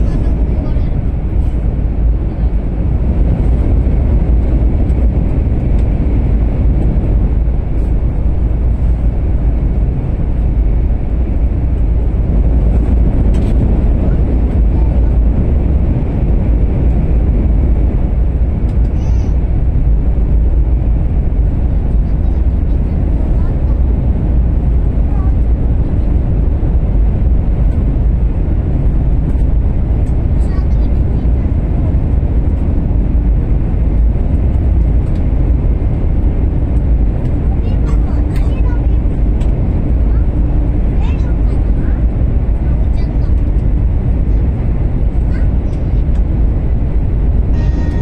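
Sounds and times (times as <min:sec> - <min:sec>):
train rumble inside cabin: 0:00.0 - 0:48.0.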